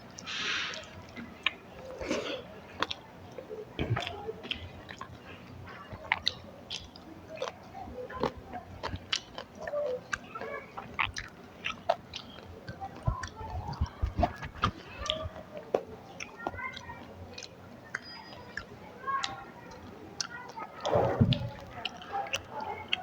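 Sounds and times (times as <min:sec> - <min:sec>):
soft clicks of fingers on food: 0:00.0 - 0:20.9
wet chewing and lip smacks: 0:00.1 - 0:23.0.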